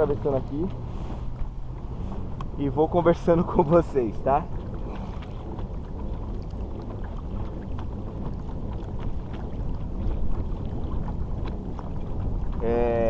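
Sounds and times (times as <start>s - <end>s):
water rushing along kayak hull: 0.0s - 13.0s.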